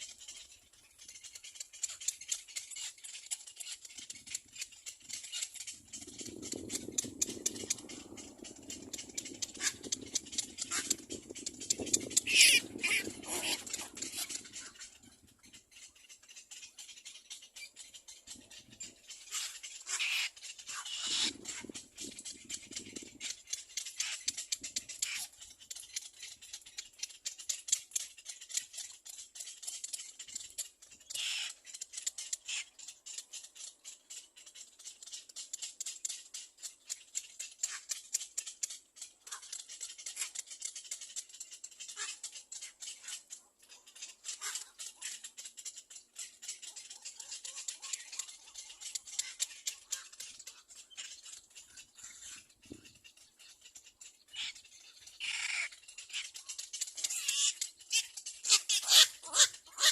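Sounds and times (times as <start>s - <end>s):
cormorant chick chattering: 0.0s - 59.9s.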